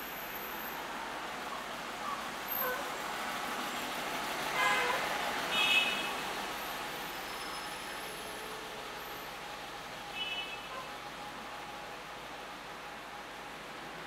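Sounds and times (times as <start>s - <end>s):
distant traffic noise: 0.0s - 14.0s.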